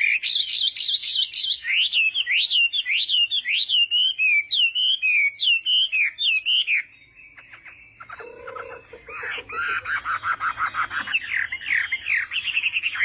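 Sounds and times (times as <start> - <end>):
bird singing swooping whistled notes: 0.0 - 13.0.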